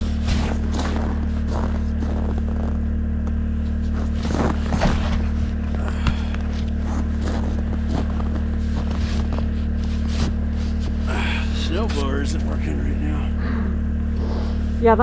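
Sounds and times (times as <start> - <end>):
footsteps: 0.0 - 12.7
engine humming: 0.0 - 15.0.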